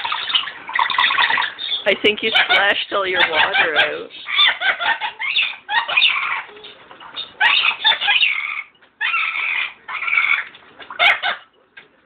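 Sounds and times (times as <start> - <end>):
parrot chattering: 0.0 - 11.5.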